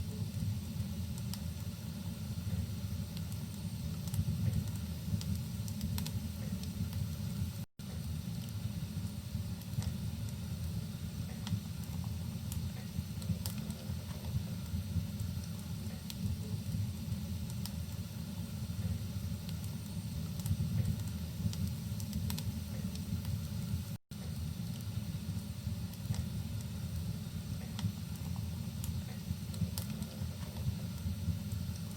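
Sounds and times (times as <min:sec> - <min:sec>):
low rumble of fire: 0:00.0 - 0:31.9
wood fire crackling and popping: 0:00.0 - 0:31.9.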